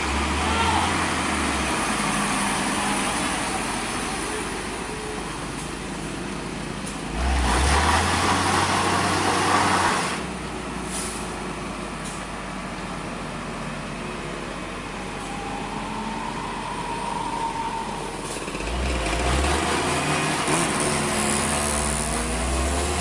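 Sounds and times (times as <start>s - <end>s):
wet tyres on road: 0.0s - 14.8s, 17.5s - 23.0s
truck diesel engine climbing: 0.0s - 23.0s.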